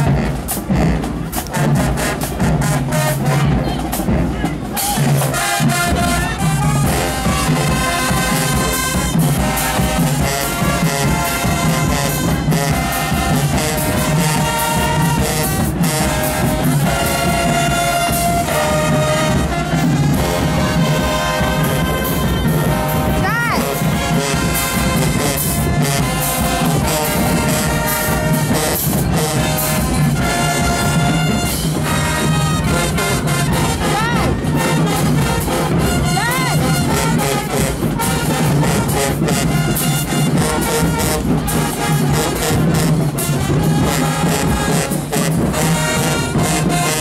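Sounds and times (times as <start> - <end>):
marching band brass: 0.0 - 47.0.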